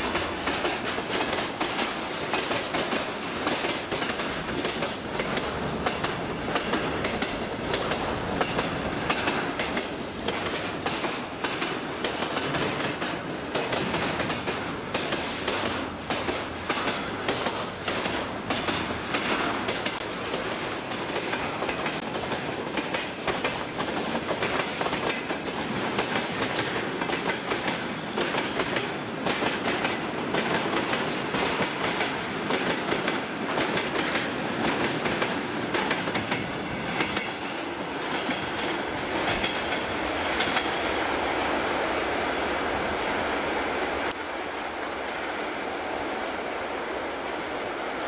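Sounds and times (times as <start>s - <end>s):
wheels clicking over rail joints: 0.0s - 40.7s.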